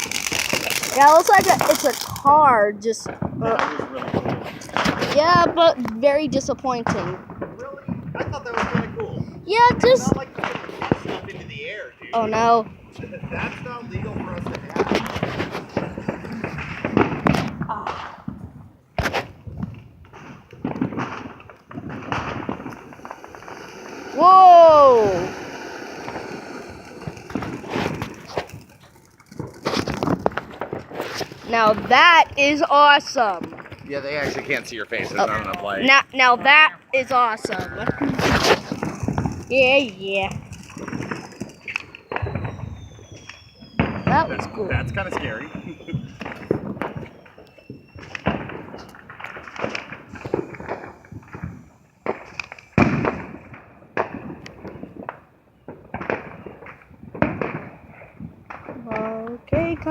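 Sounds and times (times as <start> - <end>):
firework crackling and popping: 0.0 - 59.9.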